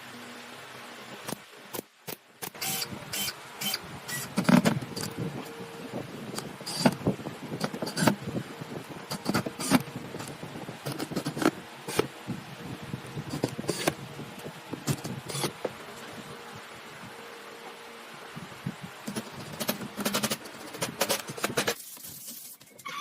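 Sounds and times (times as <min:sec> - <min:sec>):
faint steady hum: 0:00.0 - 0:21.8.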